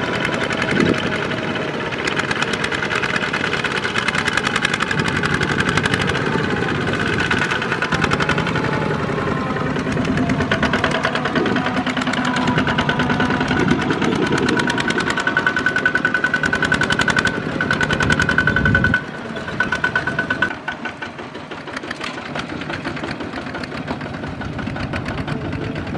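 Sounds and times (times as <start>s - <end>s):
diesel tractor engines chugging: 0.0s - 25.9s
distant tractor engines chugging: 0.0s - 25.9s.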